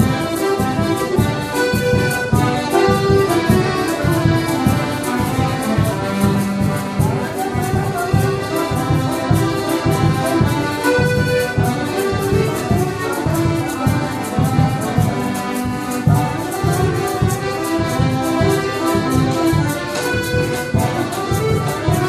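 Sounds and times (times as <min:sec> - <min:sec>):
percussion ticking even beat: 0:00.0 - 0:22.0
piano and accordions playing waltz: 0:00.0 - 0:22.0.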